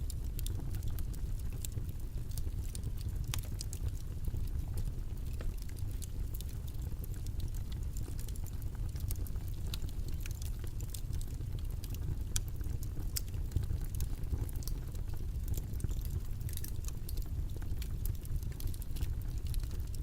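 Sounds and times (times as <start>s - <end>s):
low rumbling background noise: 0.0s - 20.0s
small clicks and crackles: 0.0s - 20.0s.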